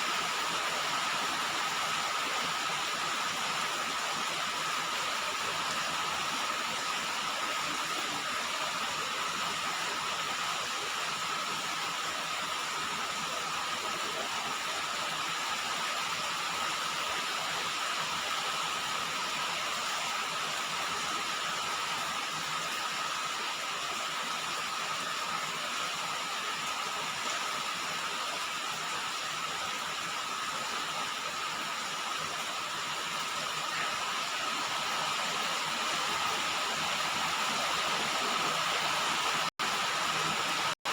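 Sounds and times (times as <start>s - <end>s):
rain falling on a roof: 0.0s - 40.9s.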